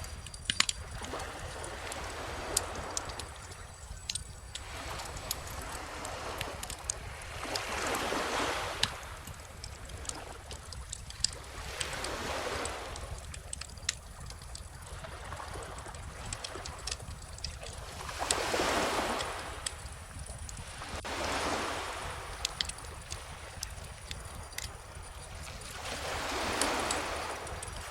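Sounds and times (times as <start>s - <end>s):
bonfire crackling: 0.0s - 27.9s
small ocean waves washing: 0.0s - 27.9s.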